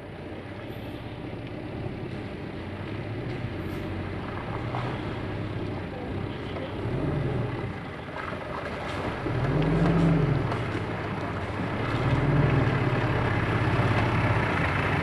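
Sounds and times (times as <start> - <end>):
pickup engine revving in mud: 2.8 - 15.0.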